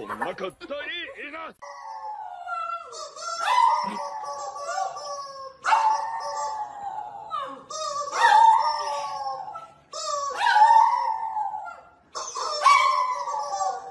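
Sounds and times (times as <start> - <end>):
small dog howling: 1.6 - 13.9.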